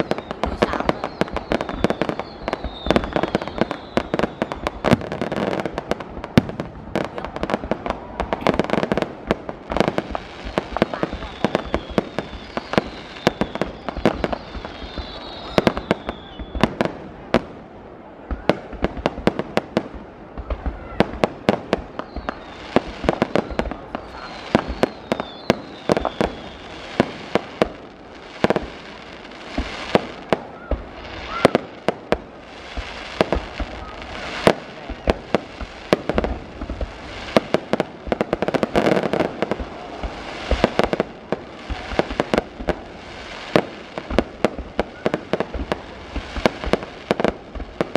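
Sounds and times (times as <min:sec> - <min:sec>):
fireworks bangs and pops: 0:00.0 - 0:47.9
fireworks crackling: 0:00.0 - 0:47.9.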